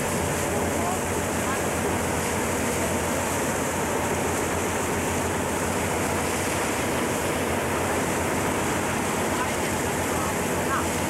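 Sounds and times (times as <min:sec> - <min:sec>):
choppy sea water rushing: 0:00.0 - 0:11.0
wind: 0:00.0 - 0:11.0.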